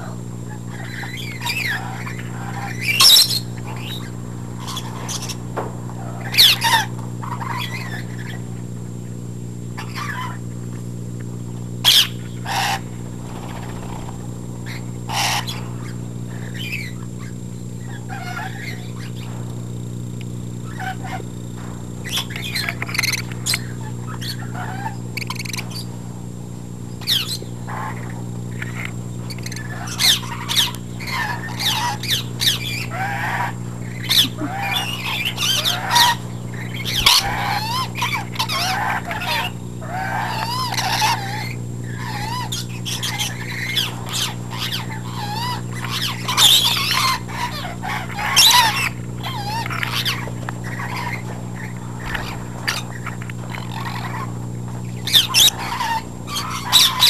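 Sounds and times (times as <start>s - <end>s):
parrots chirping and squawking: 0.0s - 8.4s, 9.7s - 10.5s, 11.8s - 19.4s, 20.6s - 25.9s, 26.9s - 57.0s.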